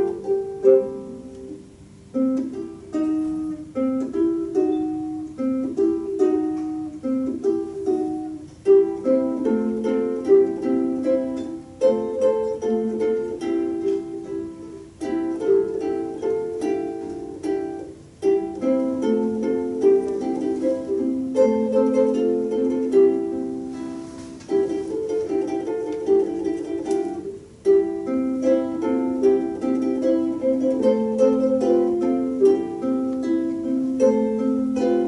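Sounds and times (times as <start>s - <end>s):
ukulele playing a tune: 0.0s - 35.0s.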